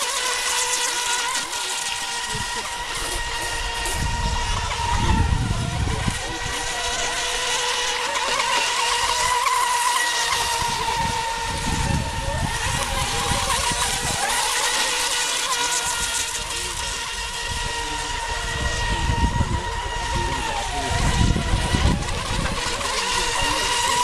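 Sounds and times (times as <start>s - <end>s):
model boat motor whine: 0.0s - 24.0s
low rumbling: 1.9s - 8.0s, 8.8s - 24.0s.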